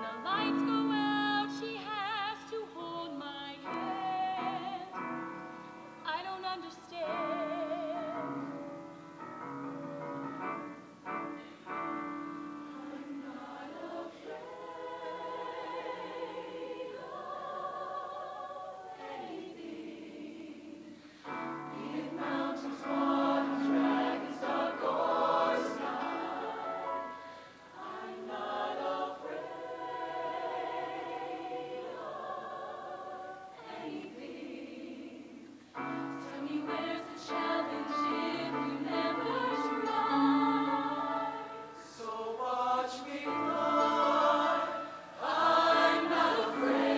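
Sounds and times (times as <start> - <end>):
choir singing in harmony: 0.0 - 6.0, 7.0 - 46.9.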